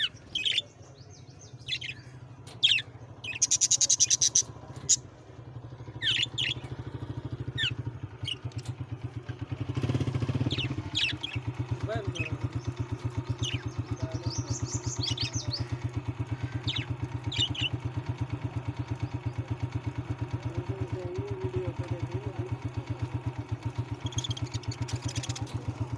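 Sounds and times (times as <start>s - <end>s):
small birds chirping: 0.0s - 25.9s
small engine idling: 0.0s - 25.9s.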